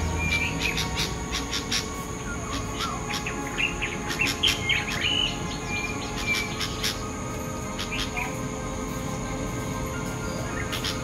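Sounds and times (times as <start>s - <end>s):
young birds chirping: 0.0s - 8.5s, 10.1s - 11.0s
rising and falling bird calls: 0.0s - 11.0s.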